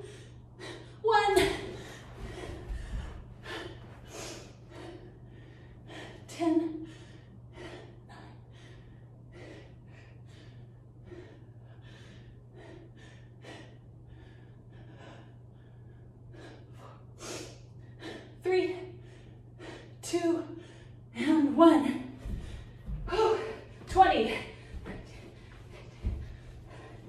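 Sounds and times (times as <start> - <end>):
woman breathing hard: 0.0 - 21.2, 22.2 - 27.0
steady low hum: 0.0 - 27.0.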